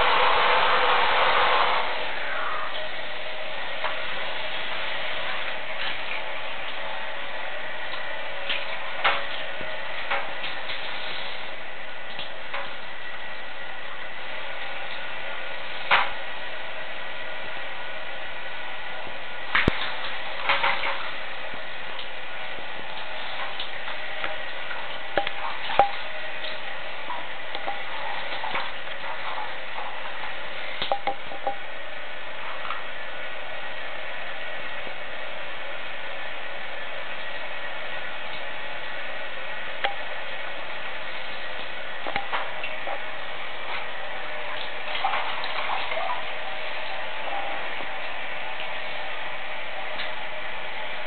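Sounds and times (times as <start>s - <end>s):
running water hiss: 0.0s - 51.0s.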